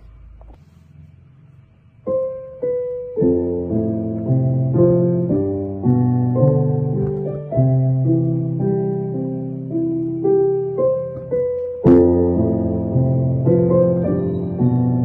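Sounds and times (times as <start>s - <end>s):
piano music: 2.0s - 15.0s.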